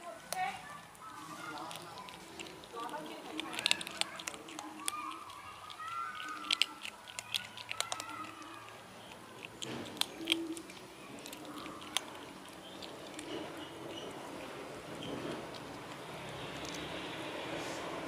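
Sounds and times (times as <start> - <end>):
kittens crunching dry kibble: 0.0 - 18.0.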